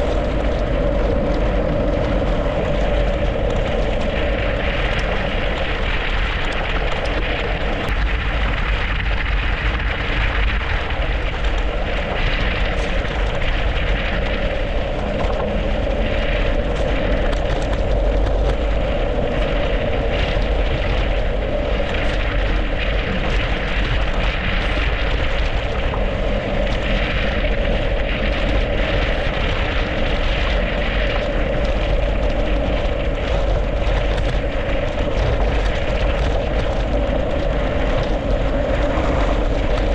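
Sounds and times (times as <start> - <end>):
bike tyres rolling on icy road: 0.0 - 39.9
wind rushing over microphone: 0.0 - 39.9.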